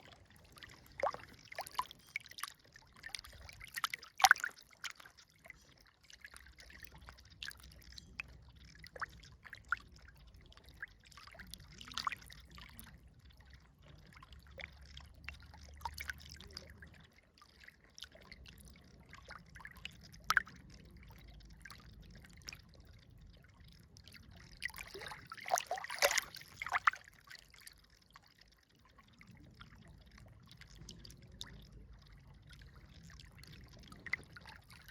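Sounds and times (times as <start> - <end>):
river water trickling and splashing: 0.0 - 34.9
faint low rumble: 6.3 - 34.9.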